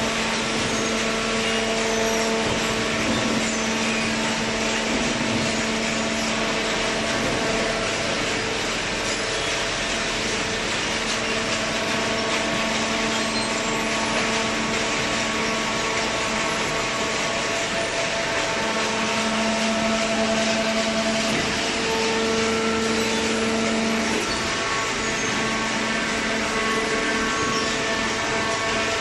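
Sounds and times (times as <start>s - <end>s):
baler machine hum: 0.0s - 29.0s.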